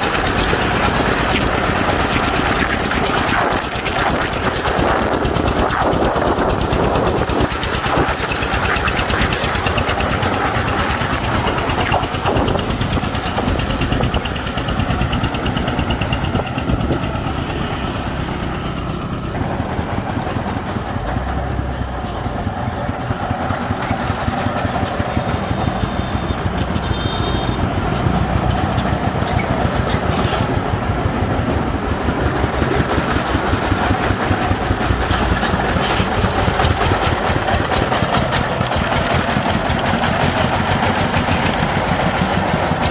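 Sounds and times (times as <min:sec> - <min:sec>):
engine running with fast pulse: 0:00.0 - 0:42.9.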